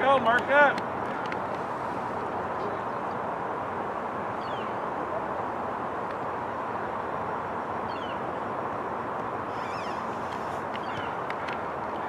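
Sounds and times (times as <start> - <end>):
outdoor background roar: 0.0 - 12.0.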